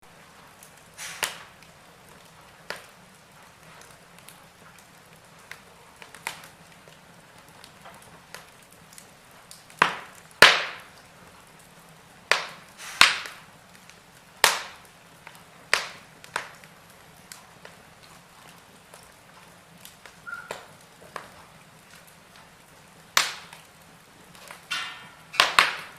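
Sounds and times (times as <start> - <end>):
faint steady hiss: 0.0 - 25.9
fire pops and snaps: 0.0 - 25.9.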